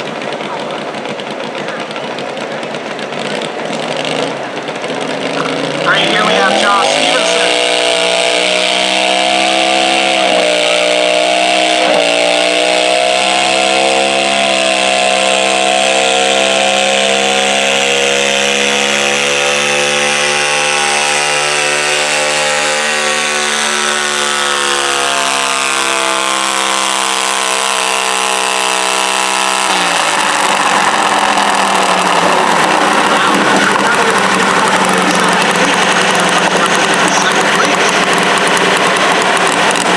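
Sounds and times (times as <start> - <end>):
small engine labouring under load: 0.0 - 39.9.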